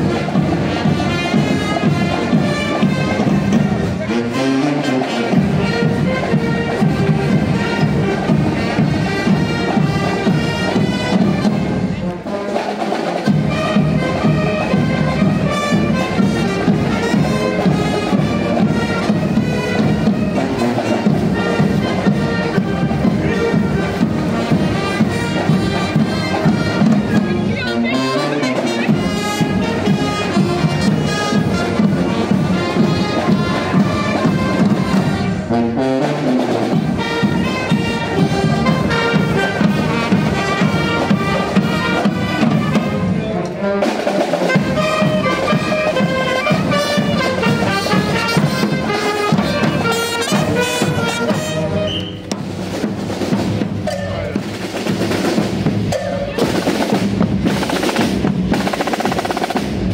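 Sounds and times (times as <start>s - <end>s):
brass band with snare drums: 0.0s - 59.9s.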